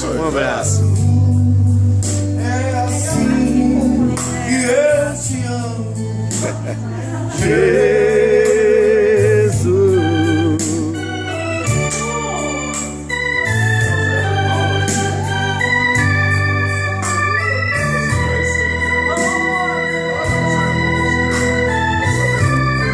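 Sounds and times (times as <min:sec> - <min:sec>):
organ chords: 0:00.0 - 0:22.9.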